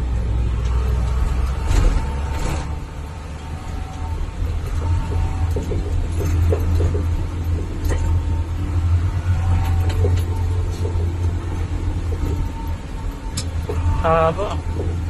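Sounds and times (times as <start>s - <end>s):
engine drone and road rumble: 0.0s - 15.0s.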